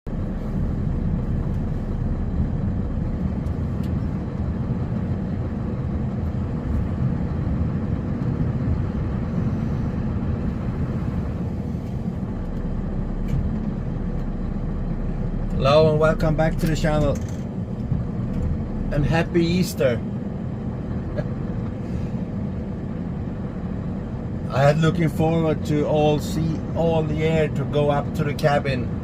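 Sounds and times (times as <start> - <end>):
faint steady hum: 0.1 - 29.0
truck engine droning: 0.1 - 29.0.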